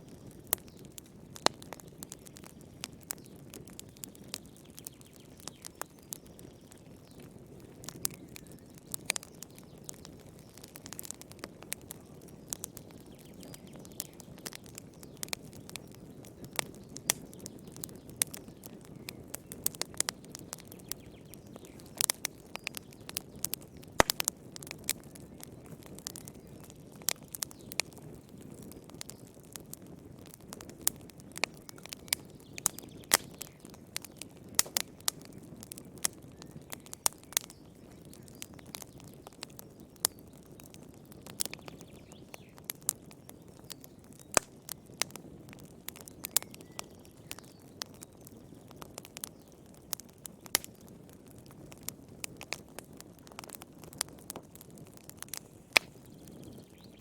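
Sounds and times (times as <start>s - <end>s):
wood fire pops and snaps: 0.0s - 57.0s.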